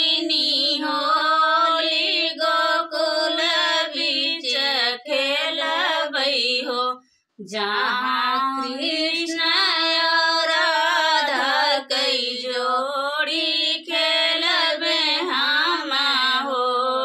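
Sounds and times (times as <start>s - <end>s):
women singing folk song: 0.0s - 17.0s.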